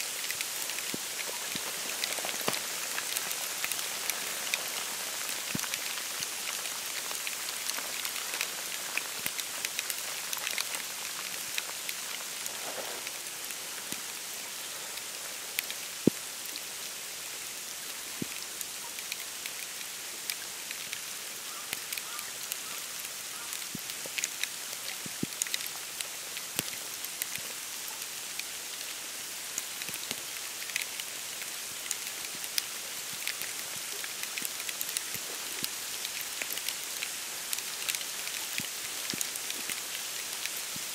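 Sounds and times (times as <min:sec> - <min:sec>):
wet snow pattering: 0:00.0 - 0:40.9.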